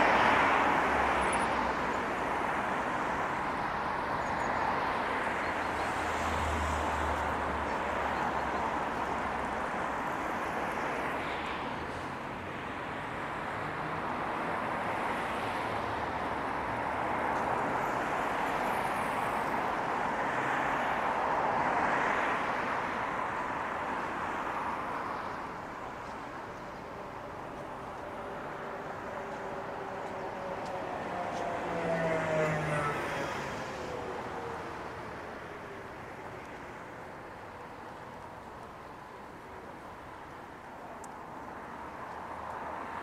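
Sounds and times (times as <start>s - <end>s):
passing cars and tyre noise: 0.0s - 43.0s
passing vehicle whine: 0.0s - 43.0s.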